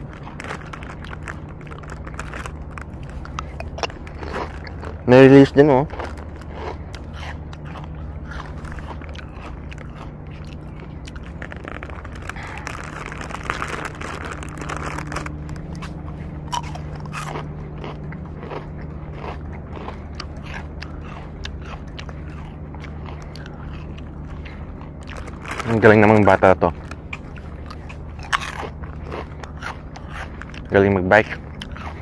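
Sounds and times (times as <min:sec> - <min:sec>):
low hum: 0:00.0 - 0:32.0
person chewing crunchy food: 0:00.0 - 0:32.0.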